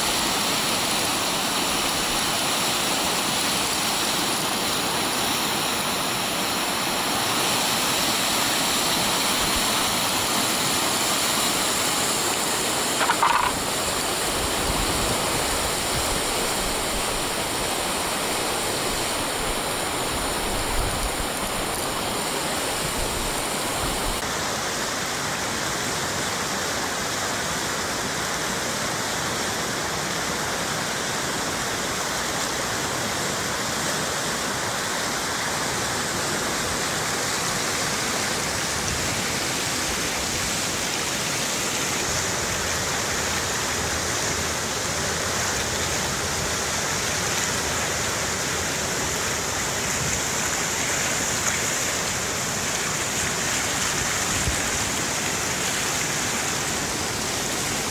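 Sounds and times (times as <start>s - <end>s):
river rapids rushing: 0.0s - 57.9s.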